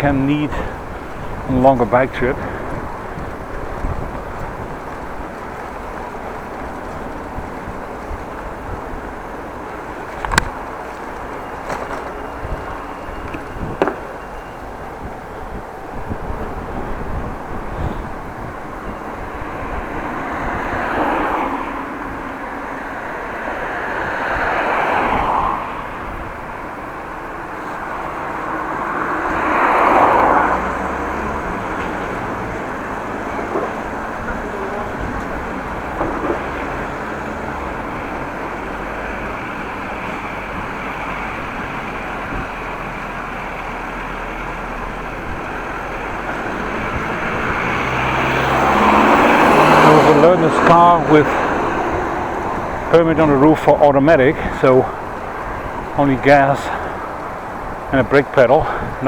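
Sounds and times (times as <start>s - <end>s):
bicycle riding noise: 0.0s - 59.0s
vehicles passing: 0.0s - 59.0s
wind rushing on microphone: 0.0s - 59.0s.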